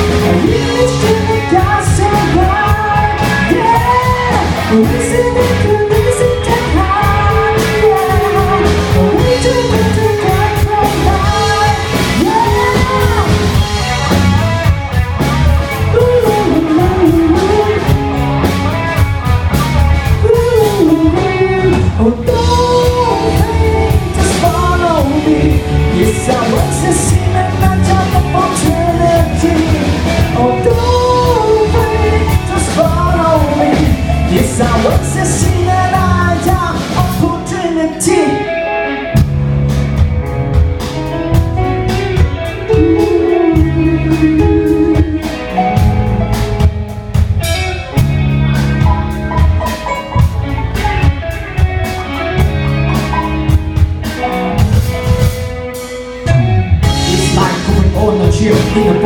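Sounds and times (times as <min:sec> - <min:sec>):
drum kit beat: 0:00.0 - 0:38.3, 0:39.1 - 0:59.0
person singing: 0:00.0 - 0:39.2, 0:41.6 - 0:46.5, 0:48.8 - 0:59.0
bass guitar: 0:00.0 - 0:59.0
electric guitar: 0:00.0 - 0:59.0.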